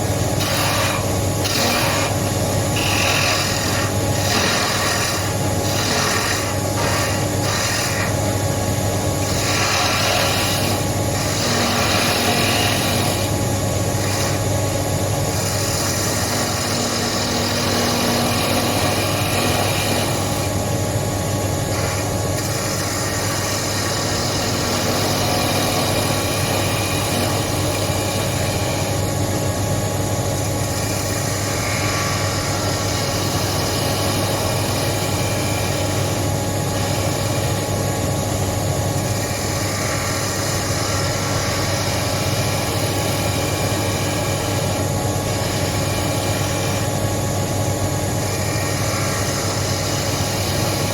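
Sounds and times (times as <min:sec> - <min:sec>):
turning tool cutting wood: 0:00.0 - 0:29.2, 0:30.1 - 0:50.9
wood lathe motor hum: 0:00.0 - 0:50.9.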